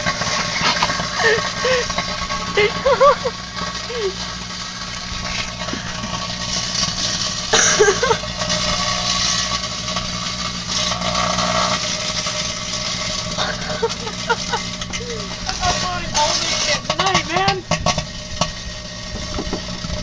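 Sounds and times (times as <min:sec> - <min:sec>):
metal foil arcing and crackling: 0:00.0 - 0:20.0
microwave oven humming: 0:00.0 - 0:20.0.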